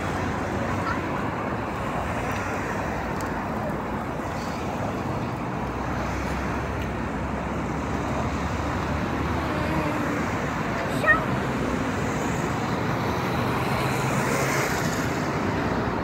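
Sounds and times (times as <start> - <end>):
city road traffic hum: 0.0 - 16.0.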